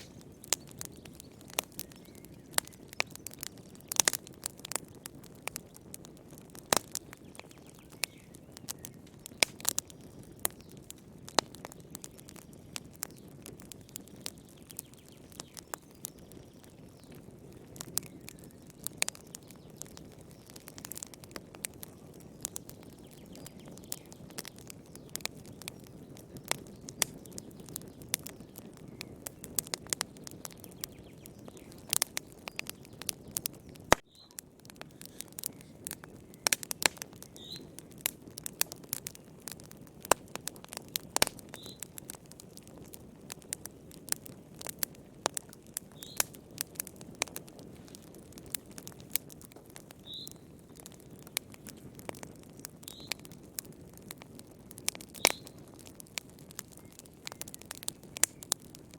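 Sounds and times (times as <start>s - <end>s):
low rumble of flames: 0.0s - 58.9s
wood fire crackling: 0.0s - 58.9s.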